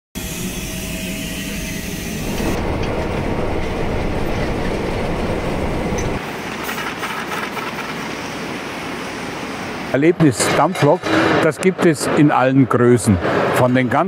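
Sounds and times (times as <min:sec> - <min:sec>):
steam locomotive running: 0:00.2 - 0:12.3.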